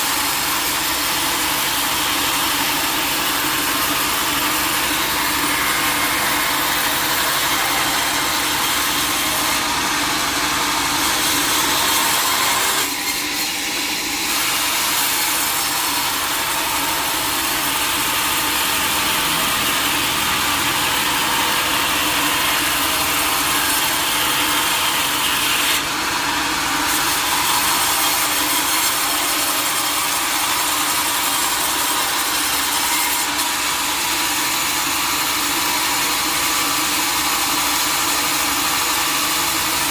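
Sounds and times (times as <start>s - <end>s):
saw blade cutting through log: 0.0s - 39.9s.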